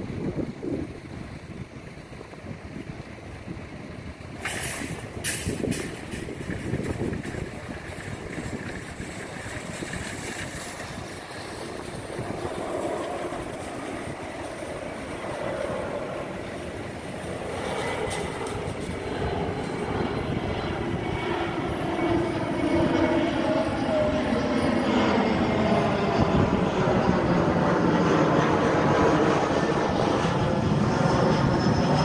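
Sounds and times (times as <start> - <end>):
jet airliner approaching: 0.0 - 32.0
jet engine whine: 0.0 - 32.0.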